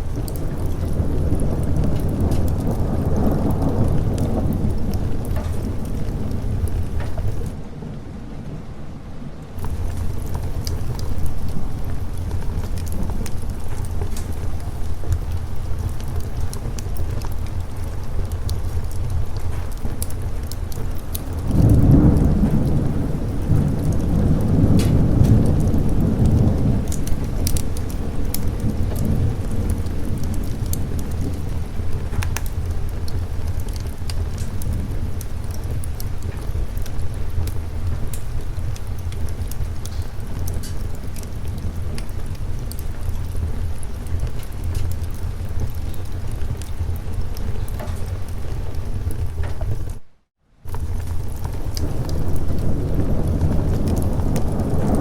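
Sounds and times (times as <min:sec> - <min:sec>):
sharp crackles: 0:00.0 - 0:07.6, 0:09.6 - 0:55.0
rolling thunder: 0:00.0 - 0:50.0, 0:50.7 - 0:55.0
steady rain: 0:00.0 - 0:55.0.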